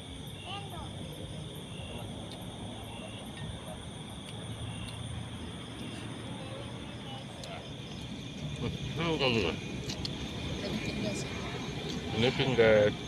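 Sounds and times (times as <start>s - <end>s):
insect chirping: 0.0s - 13.0s
insects buzzing: 0.0s - 13.0s.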